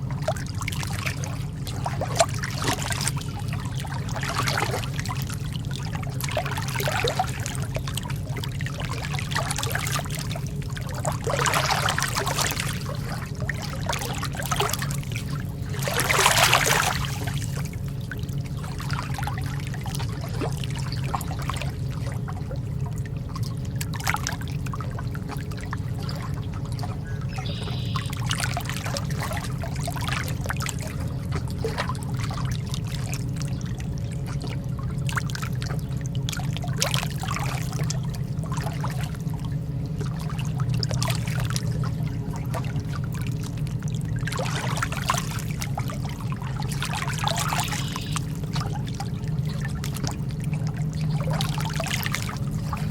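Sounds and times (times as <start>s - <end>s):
water lapping against shore: 0.0s - 52.9s.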